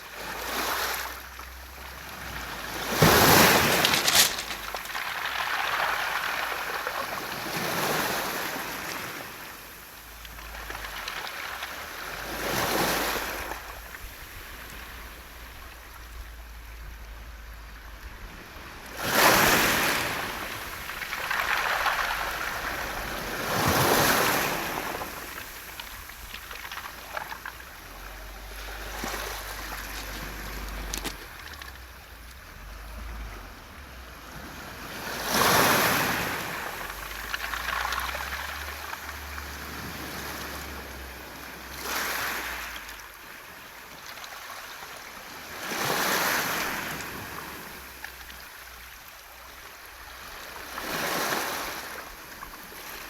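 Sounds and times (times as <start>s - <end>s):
waves washing over pebbles: 0.0s - 53.0s.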